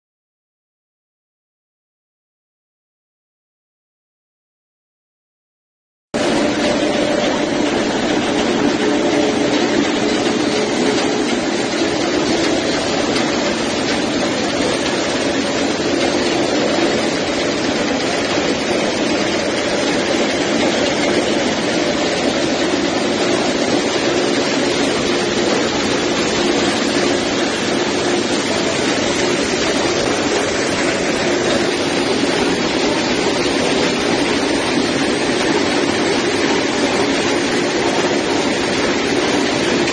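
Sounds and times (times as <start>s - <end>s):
rotating drum machinery: 6.2s - 39.9s
slurry pouring into chute: 6.2s - 39.9s.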